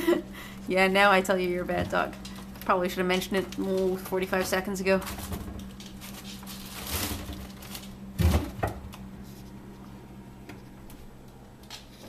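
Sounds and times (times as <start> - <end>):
refrigerator hum: 0.0 - 12.0.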